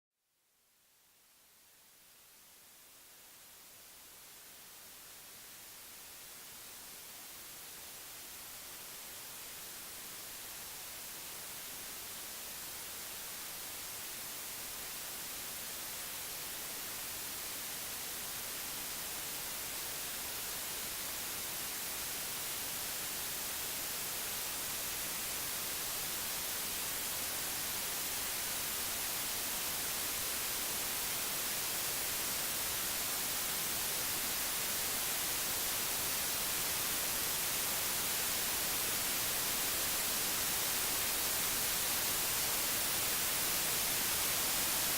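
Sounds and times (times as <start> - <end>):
white noise hiss: 0.2 - 44.9.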